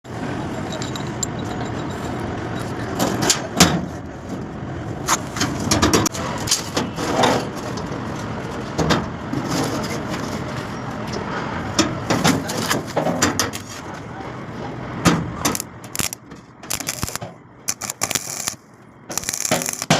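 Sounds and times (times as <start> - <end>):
steady background noise: 0.1 - 19.9.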